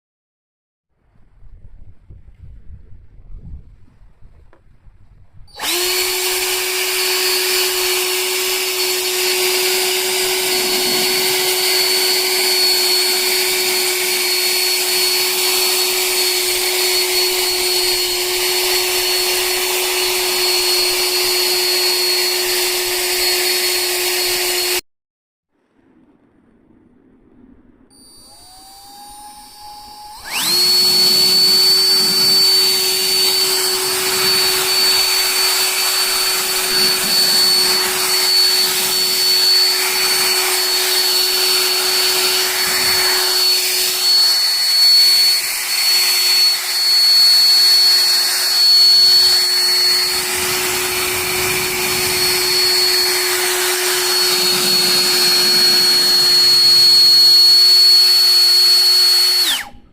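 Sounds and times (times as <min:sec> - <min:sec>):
car dryer blower whining: 0:05.5 - 0:24.8, 0:27.9 - 0:59.9.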